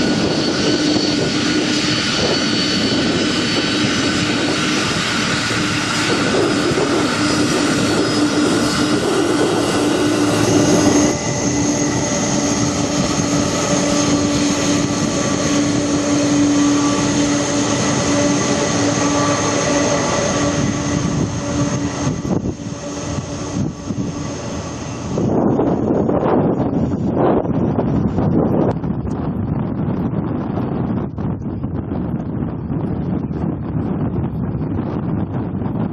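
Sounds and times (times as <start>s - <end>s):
jet engines at takeoff power: 0.0s - 35.9s.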